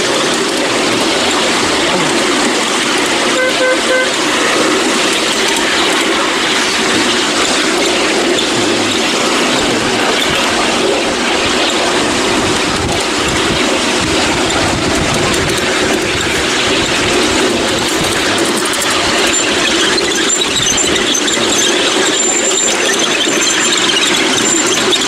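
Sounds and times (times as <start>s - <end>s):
high wheel squeal: 0.0s - 25.0s
train wheels rattling on rails: 0.0s - 25.0s
wind buffeting microphone: 4.2s - 25.0s.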